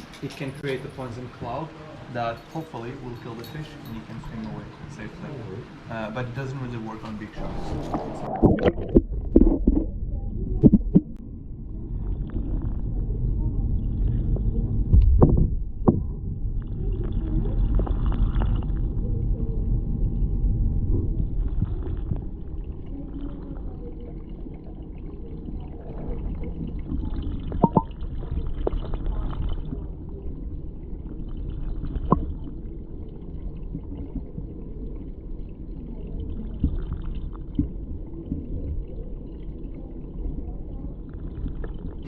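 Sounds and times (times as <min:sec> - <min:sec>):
water rumbling and gurgling: 0:00.0 - 0:42.0.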